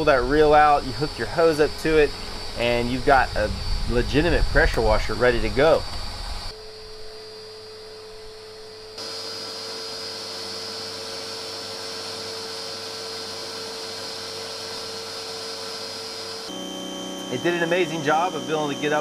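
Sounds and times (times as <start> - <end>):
electric machine hum with hiss: 0.0 - 19.0.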